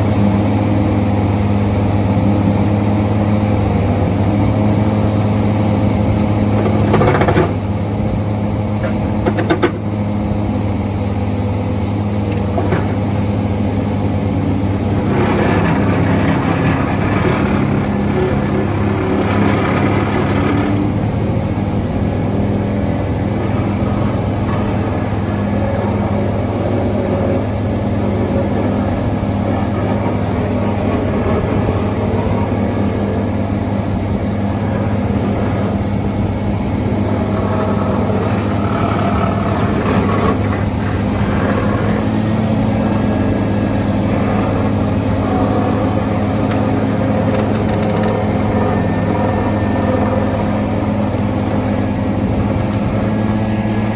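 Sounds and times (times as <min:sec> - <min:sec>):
excavator low machine drone: 0:00.0 - 0:53.9.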